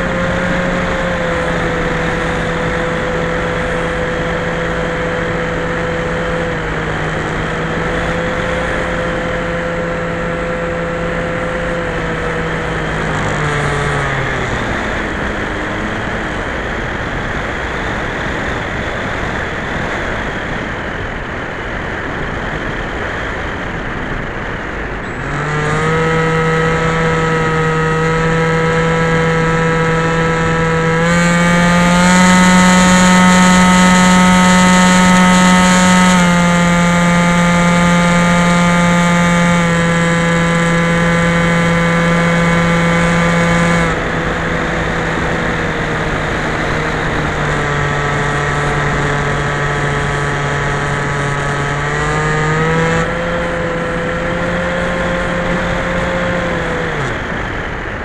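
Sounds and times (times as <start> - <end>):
electric motor whine: 0.0 - 20.5, 24.5 - 58.0.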